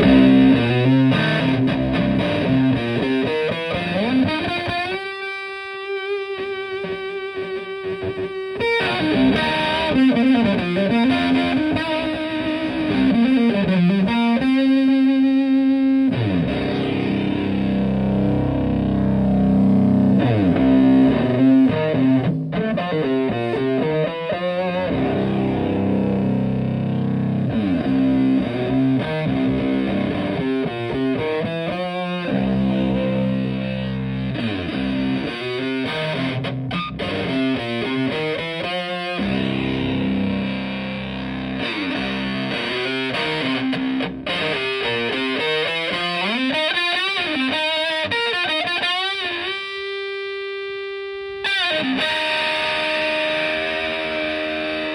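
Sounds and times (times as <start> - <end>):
fuzzy distorted electric guitar: 0.0 - 54.9.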